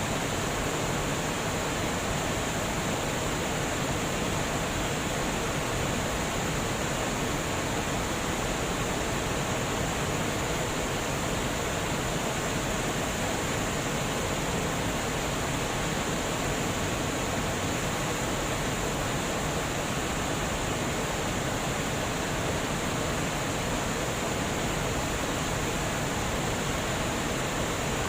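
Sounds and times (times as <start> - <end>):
water rushing from dam: 0.0 - 28.0.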